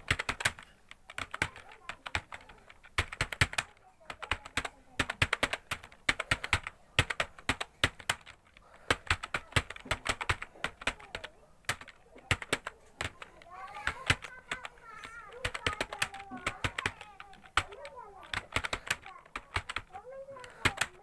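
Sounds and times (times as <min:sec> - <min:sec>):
fast typing on keyboard: 0:00.0 - 0:21.0.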